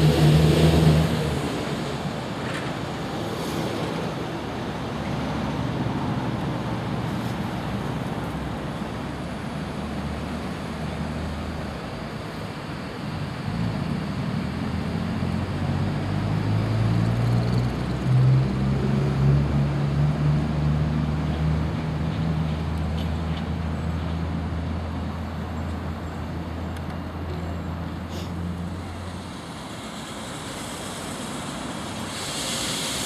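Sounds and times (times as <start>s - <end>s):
hiss: 0.0s - 23.2s, 28.0s - 33.0s
diesel locomotive engine droning: 0.0s - 33.0s.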